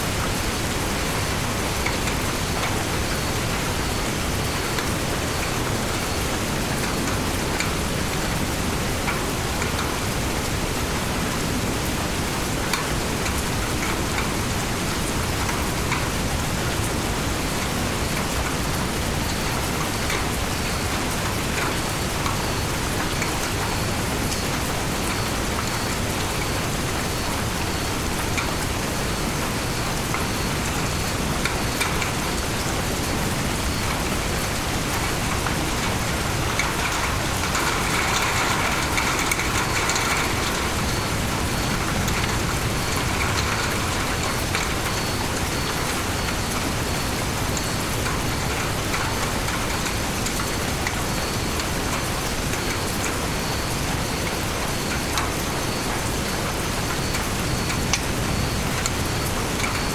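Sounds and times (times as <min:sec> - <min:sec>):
heavy rainfall: 0:00.0 - 0:59.9
raindrops ticking on leaves: 0:00.0 - 0:59.9.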